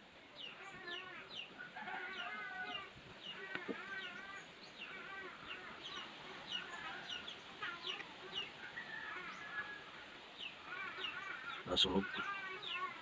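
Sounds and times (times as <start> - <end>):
birds chirping: 0.0 - 13.0
low wavering bird calls: 0.3 - 13.0.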